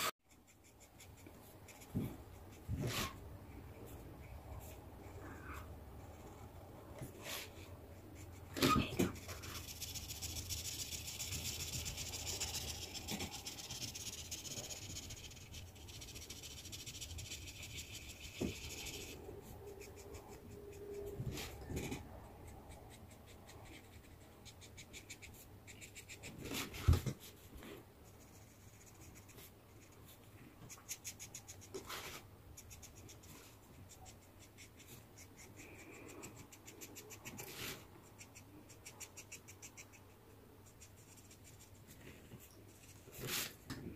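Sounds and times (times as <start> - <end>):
marker scratching on paper: 0.3 - 3.2, 4.6 - 43.6.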